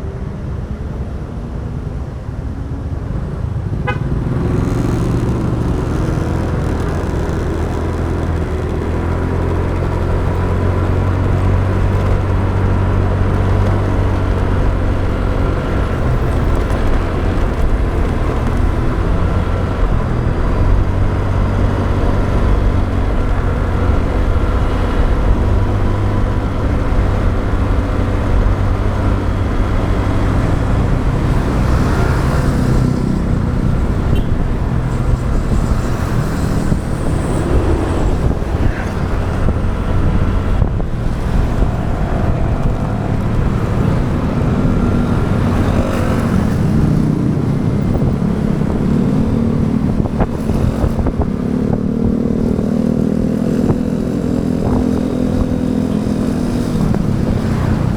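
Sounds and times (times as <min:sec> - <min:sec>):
passing traffic: 0:00.0 - 0:57.9
wind rumble on microphone: 0:00.0 - 0:57.9
motorbike engine running: 0:03.8 - 0:57.9.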